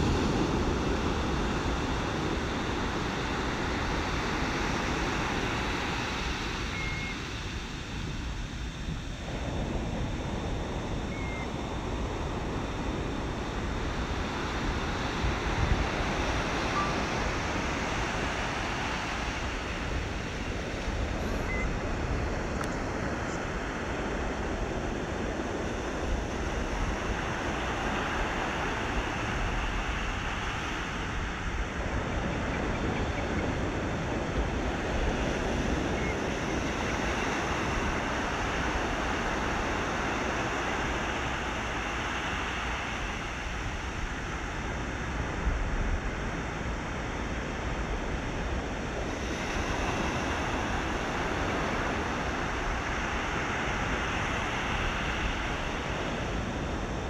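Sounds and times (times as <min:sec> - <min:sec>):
ocean waves washing in: 0:00.0 - 0:57.0
wind on microphone: 0:00.0 - 0:57.0.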